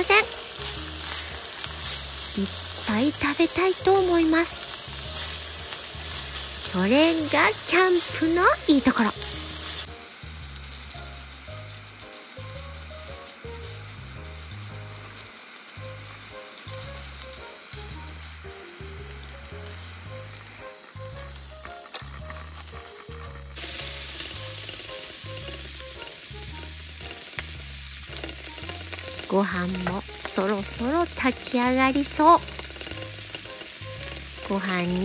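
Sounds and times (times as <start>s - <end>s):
food sizzling in a pan: 0.0s - 35.0s
light background music: 0.0s - 35.0s.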